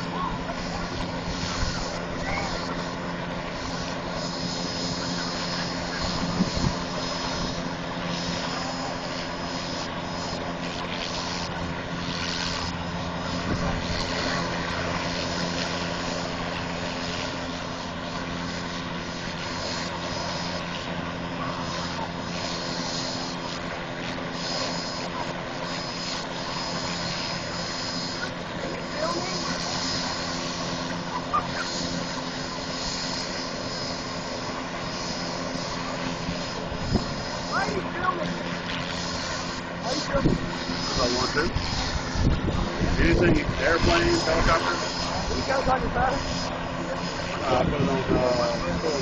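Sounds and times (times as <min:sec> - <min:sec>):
helicopter rotor beating: 0:00.0 - 0:49.0
helicopter turbine whine: 0:00.0 - 0:49.0.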